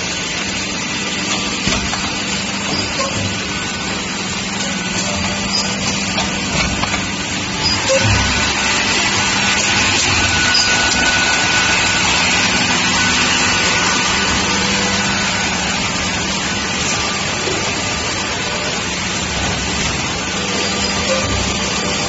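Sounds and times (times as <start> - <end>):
machine noise: 0.0 - 22.0
motor hum: 0.0 - 22.0.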